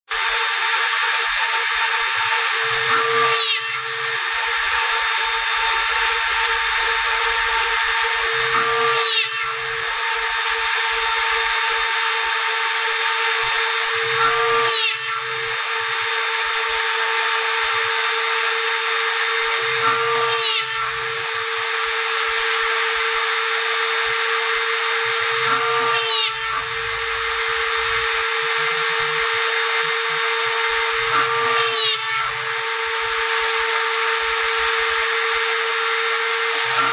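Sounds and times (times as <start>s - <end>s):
rotary tool whining: 0.1s - 36.9s.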